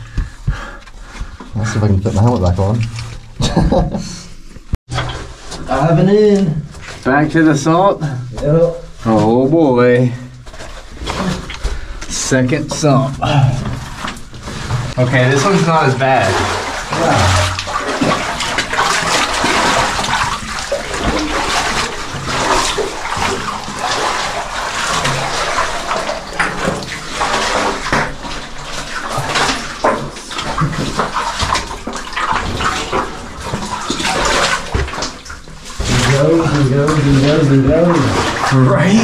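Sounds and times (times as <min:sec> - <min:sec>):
water sloshing and splashing: 0:00.0 - 0:39.0.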